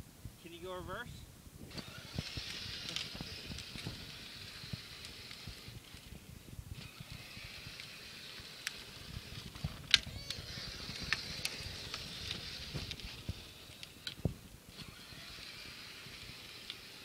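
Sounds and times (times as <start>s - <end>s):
sharp clicks: 1.7s - 6.1s, 6.8s - 17.0s
toy car motor whirring: 1.7s - 17.0s.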